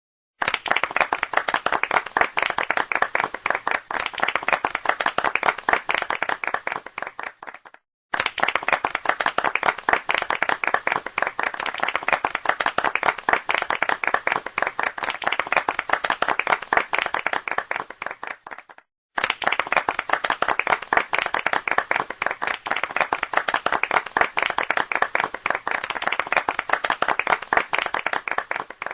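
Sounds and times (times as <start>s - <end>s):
crowd applauding: 0.4s - 28.9s.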